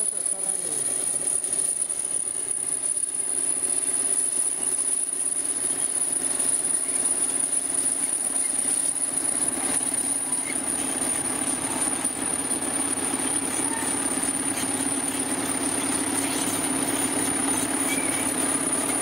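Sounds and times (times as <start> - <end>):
bulldozer blade pushing earth: 0.0 - 19.0
bulldozer diesel engine running: 0.0 - 19.0.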